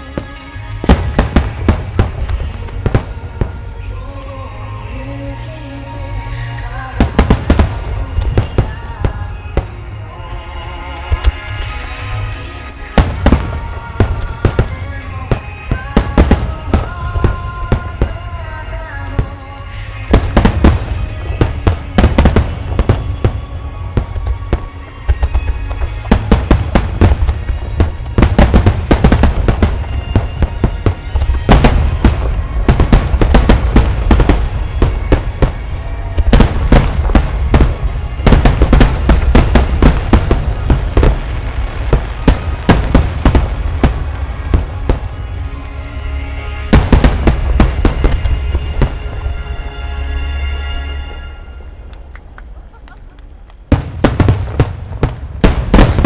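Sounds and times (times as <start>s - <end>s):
fireworks bursting: 0.0s - 56.0s
music playing: 0.0s - 56.0s.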